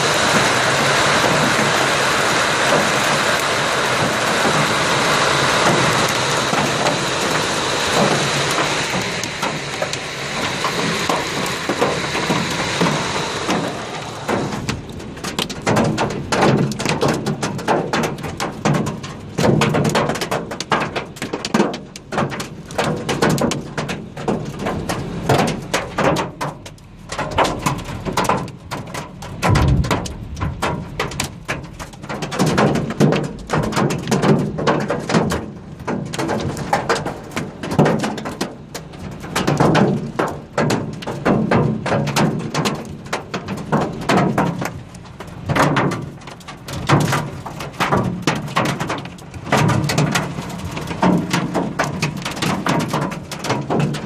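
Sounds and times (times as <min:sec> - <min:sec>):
hailstones clattering on hard surface: 0:00.0 - 0:54.0.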